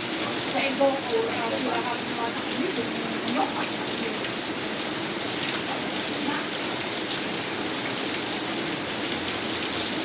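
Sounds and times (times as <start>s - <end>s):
heavy rain falling: 0.0s - 10.0s
raindrop splashes: 0.0s - 10.0s.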